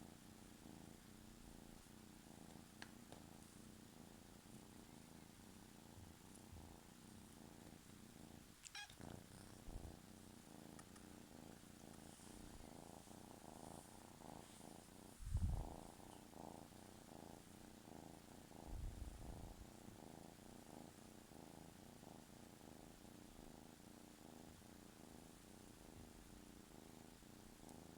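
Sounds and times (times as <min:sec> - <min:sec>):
kitten purring: 0:00.0 - 0:27.9.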